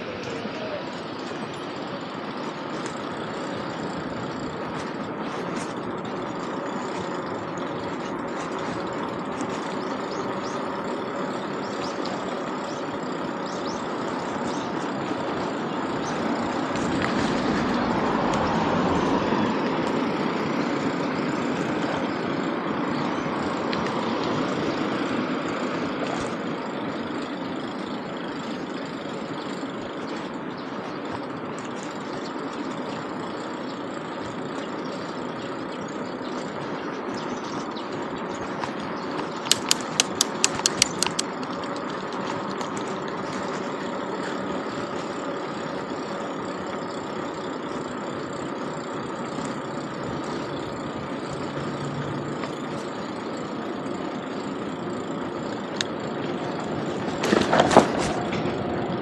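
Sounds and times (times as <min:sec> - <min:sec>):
traffic engines and tyres: 0:00.0 - 0:59.0.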